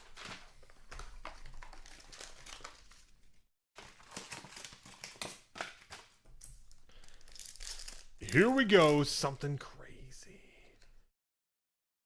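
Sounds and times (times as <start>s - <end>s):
card pack wrappers crinkling: 0.0s - 9.7s.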